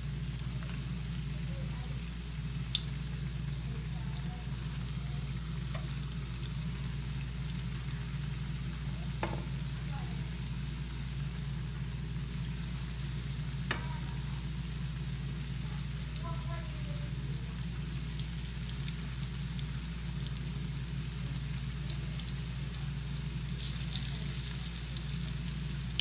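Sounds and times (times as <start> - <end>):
dough sizzling in hot oil: 0.0 - 26.0.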